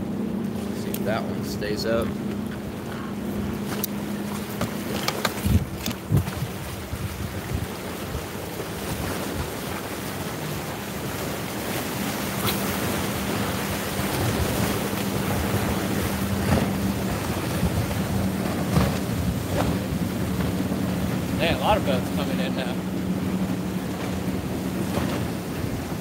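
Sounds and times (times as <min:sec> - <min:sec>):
boat motors humming: 0:00.0 - 0:26.0
wind buffeting microphone: 0:00.7 - 0:26.0
waves washing against rocks: 0:03.5 - 0:26.0.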